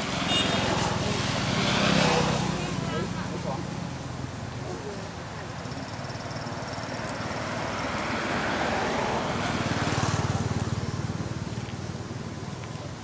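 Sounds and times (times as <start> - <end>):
motor vehicle passing by: 0.0 - 13.0.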